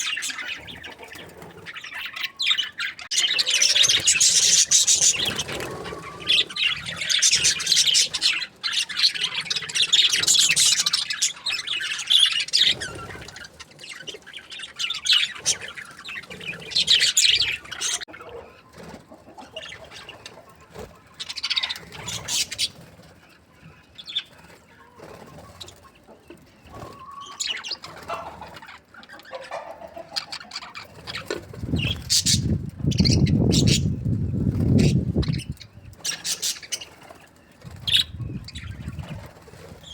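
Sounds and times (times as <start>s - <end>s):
budgerigars chirping: 0.0s - 18.6s, 21.2s - 22.8s, 24.0s - 34.0s, 34.6s - 39.9s.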